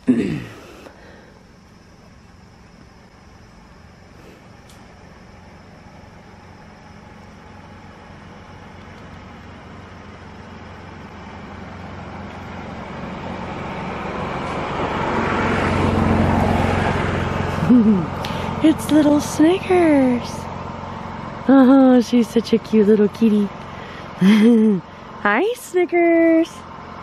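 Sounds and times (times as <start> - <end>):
road noise: 0.0 - 27.0
vehicle engine approaching: 0.0 - 27.0.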